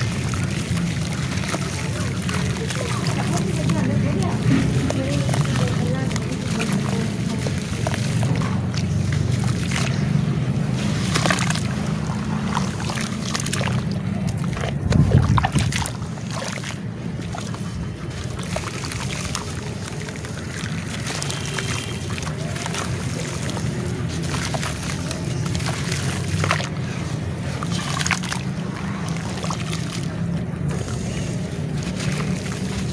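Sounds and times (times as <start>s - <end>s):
hands squeezing wet paste: 0.0s - 32.9s
water sloshing and splashing: 0.0s - 32.9s.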